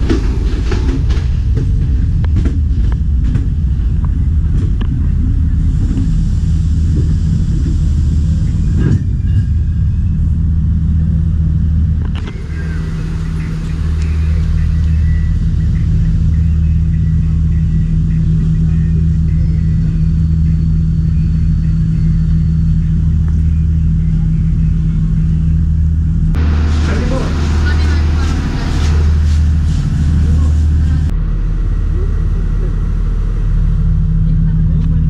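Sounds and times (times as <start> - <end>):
low engine drone: 0.0 - 35.0
train rumble: 0.0 - 35.0.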